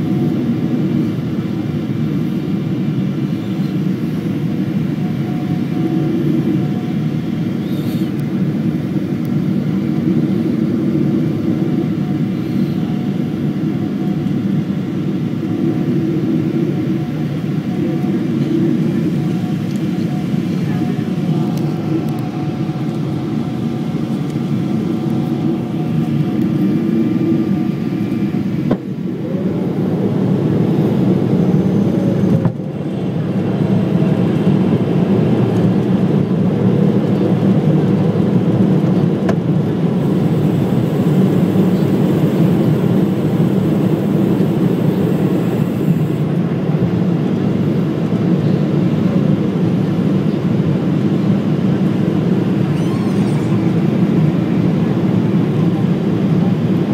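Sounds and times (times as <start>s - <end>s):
airliner engines roaring: 0.0s - 56.9s.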